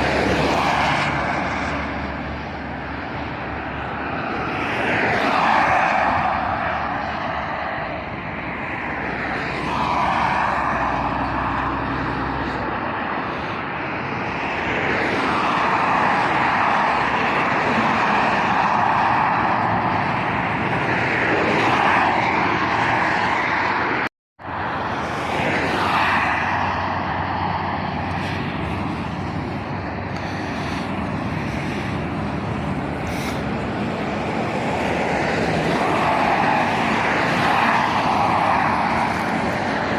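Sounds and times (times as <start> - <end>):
road traffic passing: 0.0 - 39.9.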